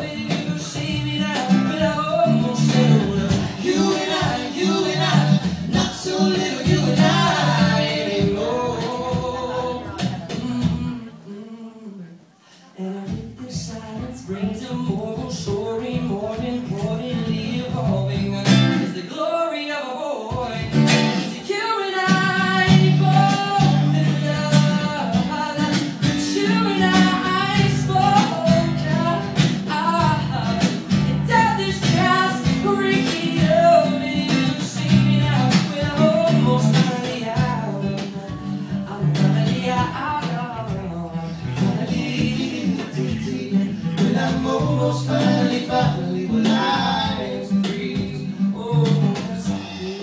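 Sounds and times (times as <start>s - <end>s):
strummed acoustic guitar: 0.0s - 11.1s, 13.1s - 19.3s, 20.3s - 50.0s
man singing pop song: 0.0s - 50.0s.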